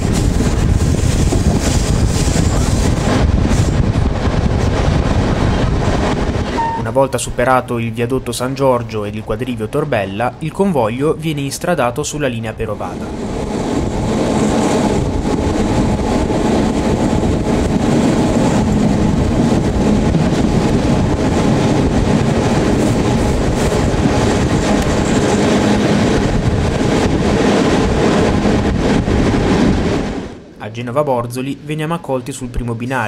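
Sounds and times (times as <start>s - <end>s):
train wheels rumbling on rails: 0.0s - 30.6s.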